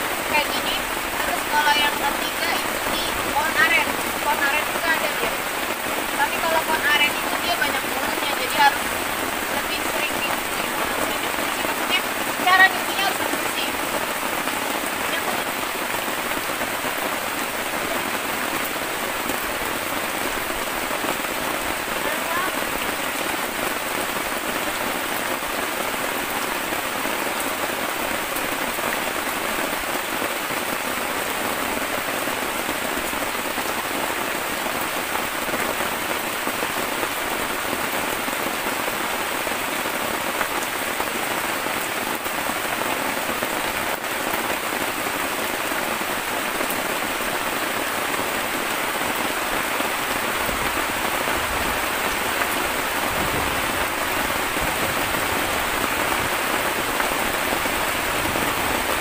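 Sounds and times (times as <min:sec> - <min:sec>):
heavy rain on tarp: 0:00.0 - 0:59.0.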